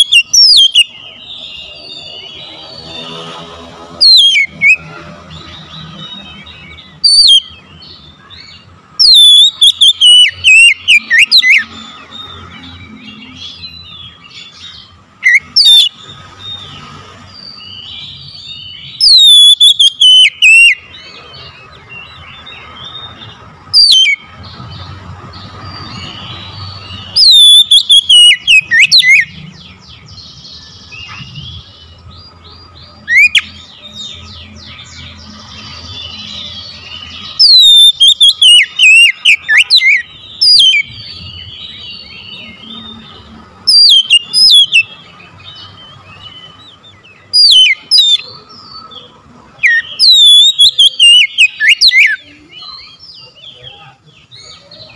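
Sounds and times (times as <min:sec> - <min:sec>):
bird singing whistled notes: 0:00.0 - 0:03.4, 0:04.0 - 0:54.9.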